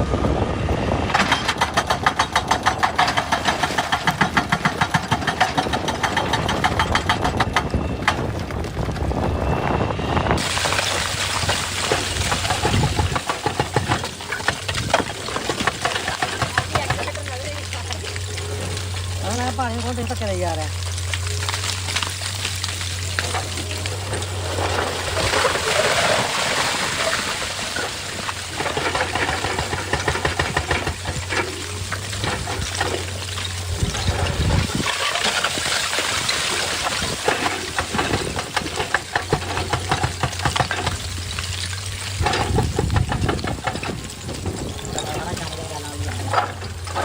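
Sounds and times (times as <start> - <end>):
excavator engine humming: 0.0 - 47.0
rock and gravel rattling: 1.0 - 47.0.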